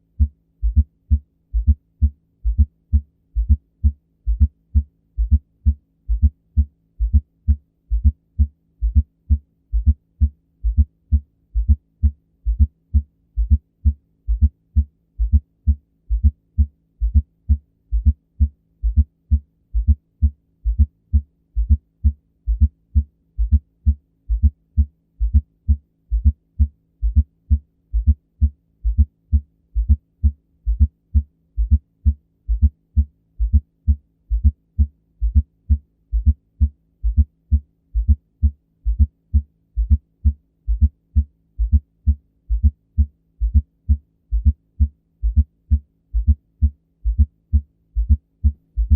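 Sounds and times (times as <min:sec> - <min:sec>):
heartbeat low thumps: 0:00.1 - 0:48.9.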